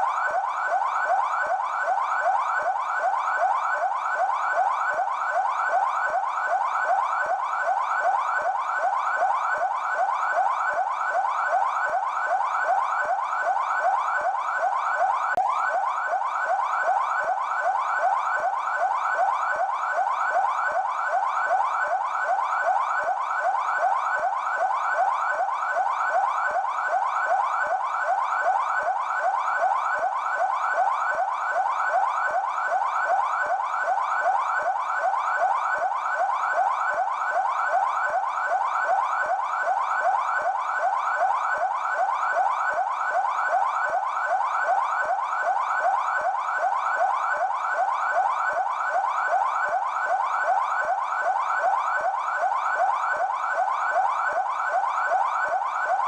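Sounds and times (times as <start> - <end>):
police siren yelping: 0.0 - 56.0.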